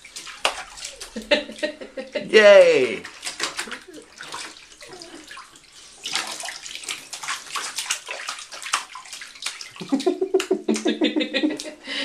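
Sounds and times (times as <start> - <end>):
baby splashing bathwater: 0.0 - 11.8.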